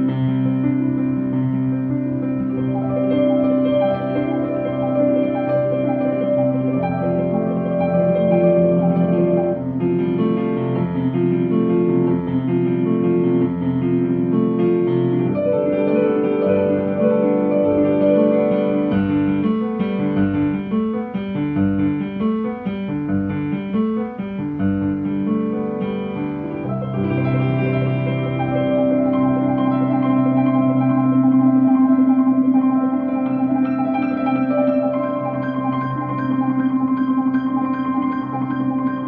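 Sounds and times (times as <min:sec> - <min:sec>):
piano broken-chord accompaniment: 0:00.0 - 0:39.0.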